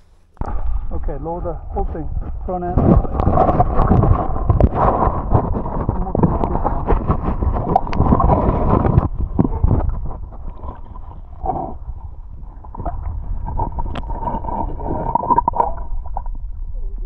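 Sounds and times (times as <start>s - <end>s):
underwater river rumble: 0.0s - 17.0s.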